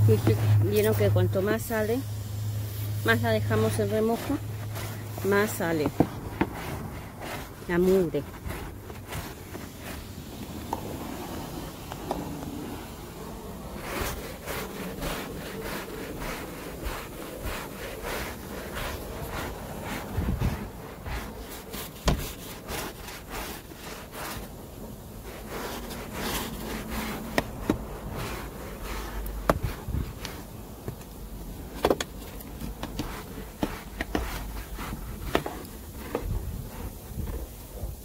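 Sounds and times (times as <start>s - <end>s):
brush scrubbing carpet: 0.0s - 38.0s.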